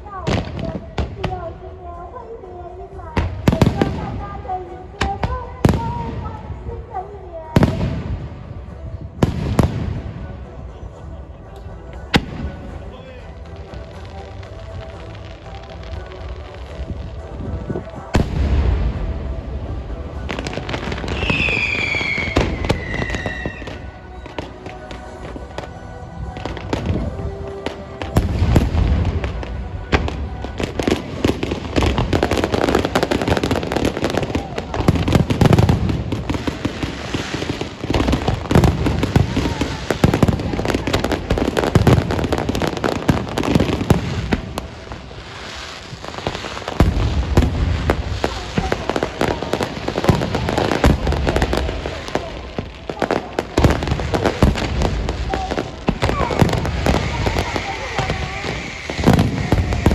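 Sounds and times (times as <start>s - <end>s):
fireworks crackling and booming: 0.0s - 59.9s.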